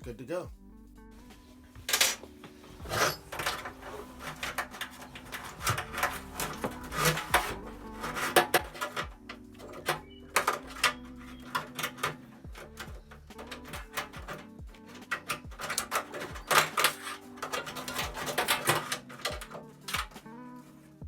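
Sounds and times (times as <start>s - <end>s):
faint background music: 0.0s - 21.0s
tools and metal fittings clicking: 1.9s - 20.4s.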